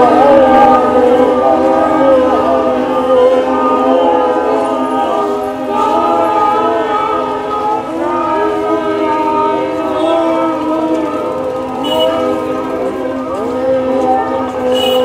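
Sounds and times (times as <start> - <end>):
wordless choral wail: 0.0 - 15.0.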